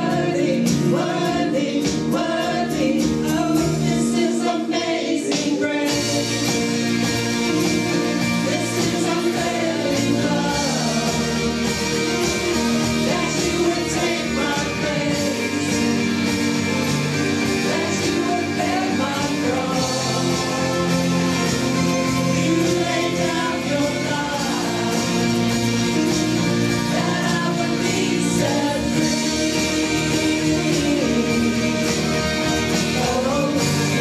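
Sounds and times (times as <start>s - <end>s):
song with singing: 0.0s - 34.0s.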